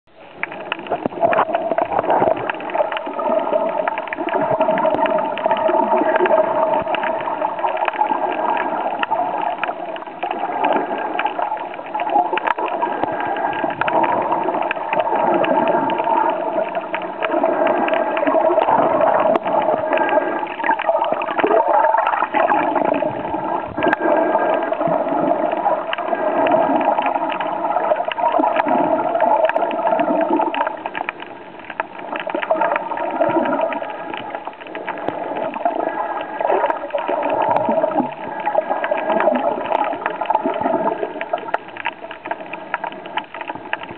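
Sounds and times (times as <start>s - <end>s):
muffled underwater water rush: 0.1s - 43.9s
small clicks: 0.4s - 21.5s, 29.4s - 43.9s.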